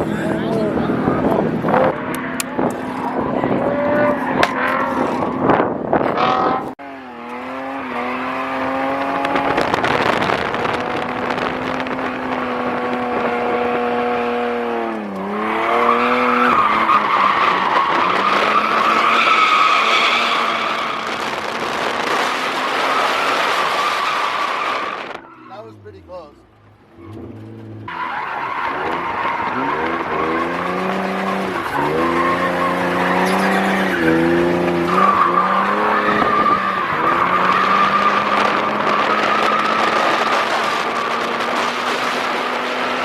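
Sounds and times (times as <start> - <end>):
car engine at high revs: 0.0 - 43.0
tires squealing: 0.0 - 43.0.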